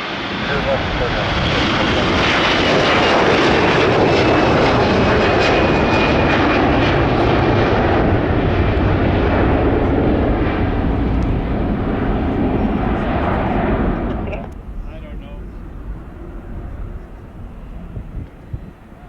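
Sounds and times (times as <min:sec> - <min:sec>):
high engine whine: 0:00.0 - 0:19.0
jet engines roaring: 0:00.0 - 0:19.0.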